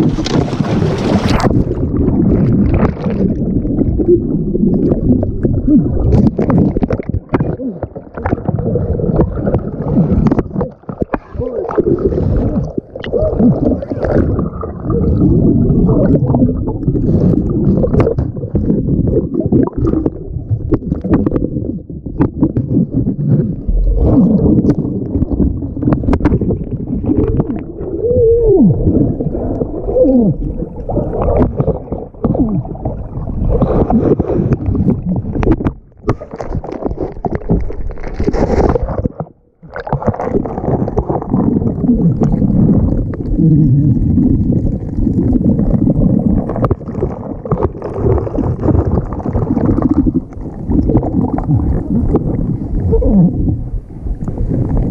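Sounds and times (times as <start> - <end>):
muffled water gurgling and sloshing: 0.0 - 54.9.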